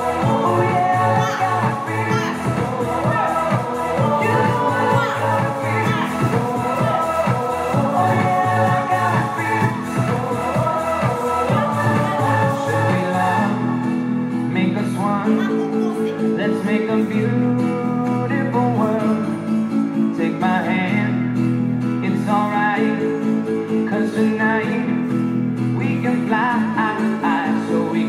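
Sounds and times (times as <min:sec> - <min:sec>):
dance-pop song: 0:00.0 - 0:28.0.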